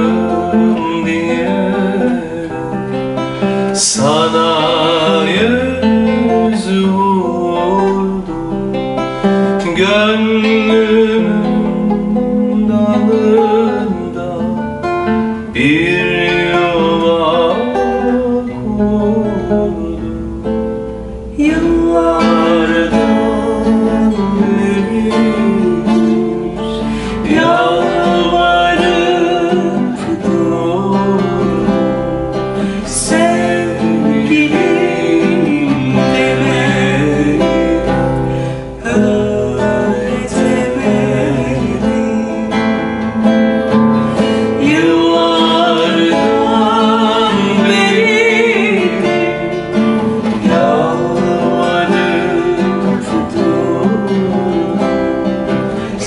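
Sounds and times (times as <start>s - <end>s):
classical guitar: 0.0s - 56.0s
vibrato melody line: 0.0s - 56.0s.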